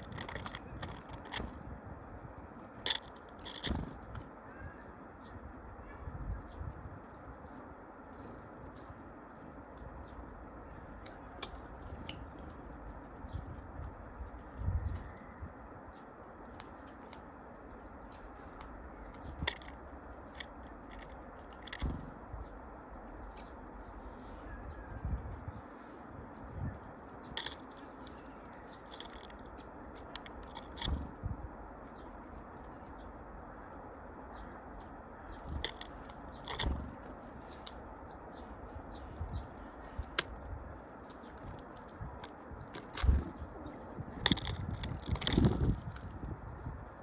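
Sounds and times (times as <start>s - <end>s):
birds pecking and cracking feed: 0.0s - 47.0s.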